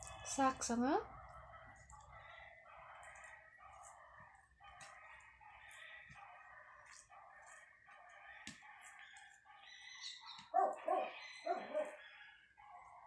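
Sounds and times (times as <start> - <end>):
animal calls chattering: 0.0 - 13.0.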